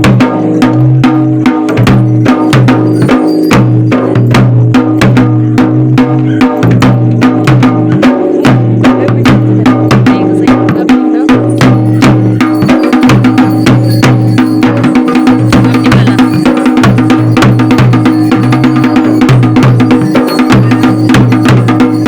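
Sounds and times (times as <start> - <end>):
loud music with fast drumming: 0.0 - 22.0.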